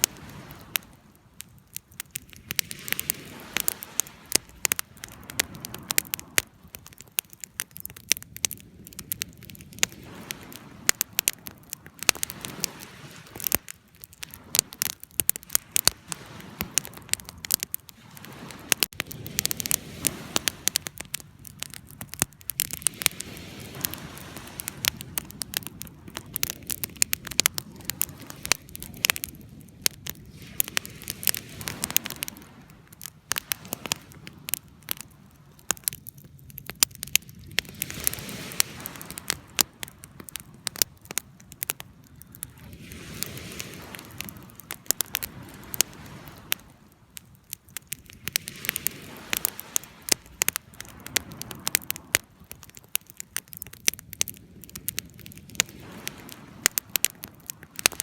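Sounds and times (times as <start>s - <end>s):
low rushing of flames: 0.0s - 58.0s
wood fire crackling and popping: 0.0s - 58.0s.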